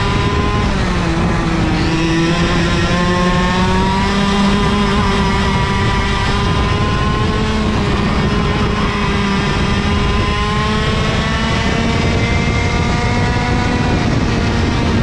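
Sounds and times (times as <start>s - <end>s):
kart engines running: 0.0s - 15.0s
wind rumble on microphone: 0.0s - 15.0s.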